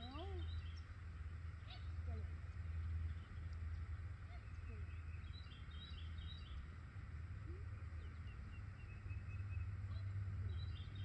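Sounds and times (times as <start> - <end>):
low outdoor rumble: 0.0 - 11.0
wild birds chirping: 0.0 - 11.0.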